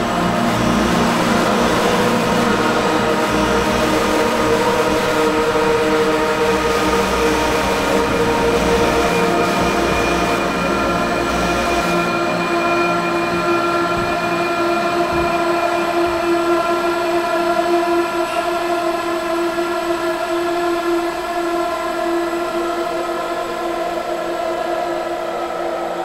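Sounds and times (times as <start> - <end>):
sustained drone chord: 0.0 - 26.0.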